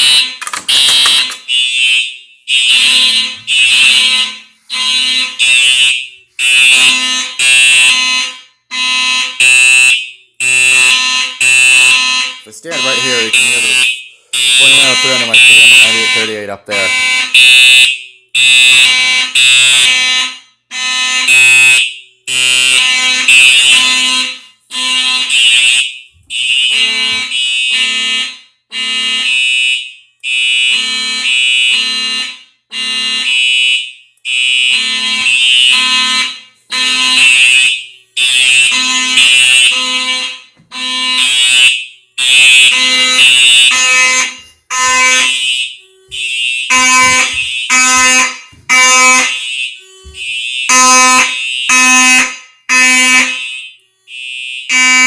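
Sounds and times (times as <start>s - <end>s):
fire alarm horns pulsing: 0.0s - 55.0s.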